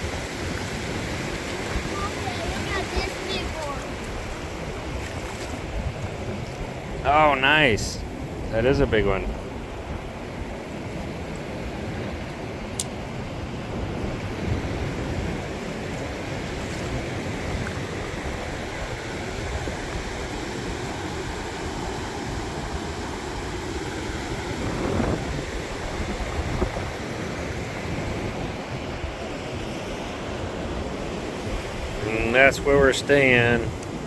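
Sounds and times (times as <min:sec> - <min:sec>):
ocean surf washing ashore: 0:00.0 - 0:34.0
wind rumbling on microphone: 0:00.0 - 0:34.0.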